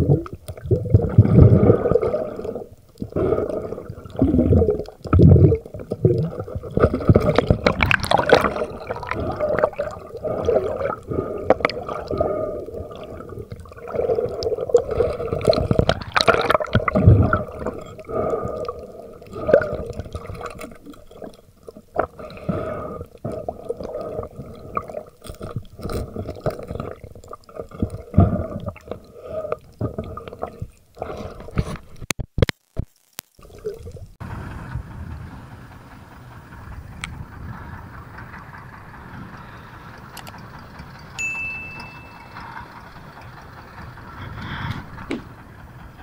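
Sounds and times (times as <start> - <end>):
steady low hum: 0.0 - 30.5, 34.2 - 46.0
water swishing and gurgling underwater: 0.0 - 32.2, 33.0 - 35.2, 41.9 - 46.0.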